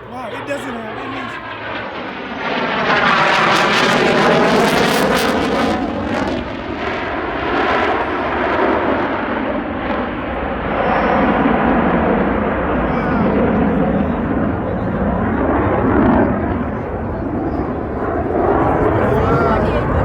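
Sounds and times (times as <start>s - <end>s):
airplane passing overhead: 0.0s - 20.0s.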